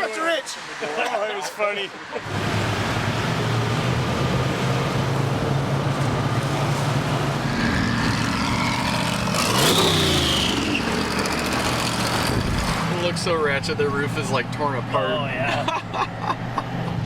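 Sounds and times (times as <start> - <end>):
car engine and road noise: 0.0 - 17.0
vehicle passing close: 2.2 - 17.0.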